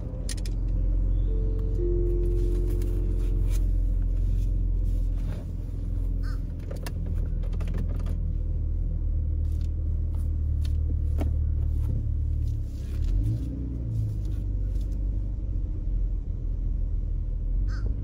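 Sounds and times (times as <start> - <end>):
car interior rumble: 0.0 - 18.0.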